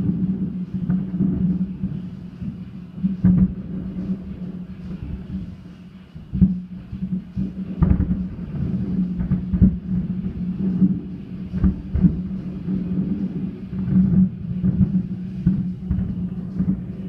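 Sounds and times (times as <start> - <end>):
fireworks booming: 0.0 - 17.0
steady low hum: 0.0 - 17.0.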